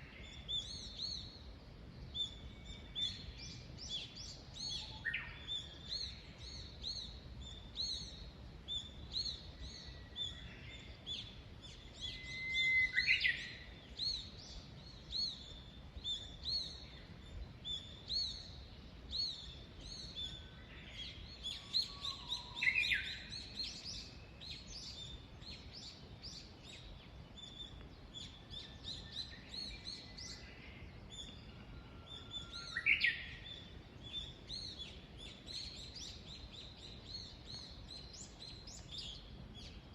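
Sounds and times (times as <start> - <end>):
louder bird song with flourish: 0.0 - 39.9.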